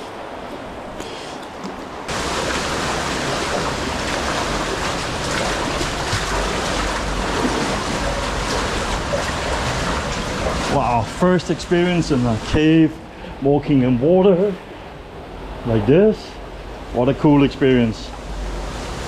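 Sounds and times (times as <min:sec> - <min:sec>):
rushing flowing water: 0:00.0 - 0:19.0.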